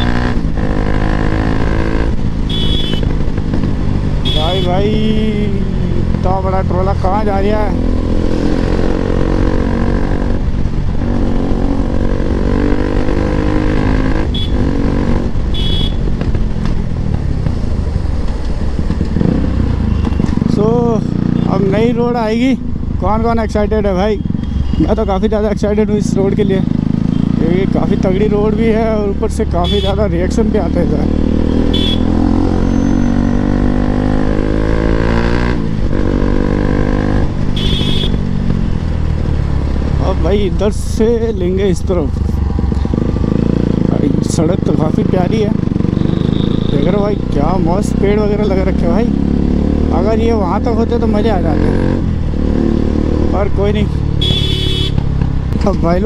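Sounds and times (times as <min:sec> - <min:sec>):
motorcycle engine through loud exhaust: 0:00.0 - 0:56.0.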